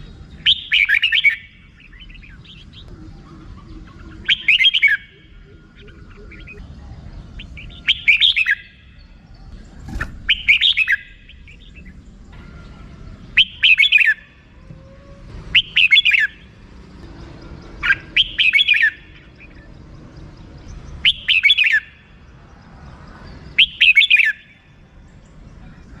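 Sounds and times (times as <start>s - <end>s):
bird warbling song: 0.0s - 26.0s.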